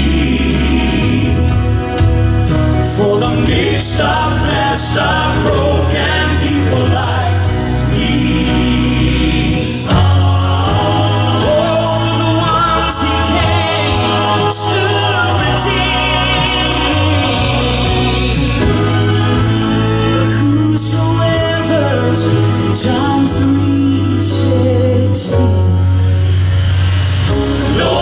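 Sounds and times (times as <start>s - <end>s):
men singing in harmony: 0.0s - 2.2s, 2.8s - 25.9s, 27.4s - 28.0s
instrumental accompaniment with bass: 0.0s - 28.0s.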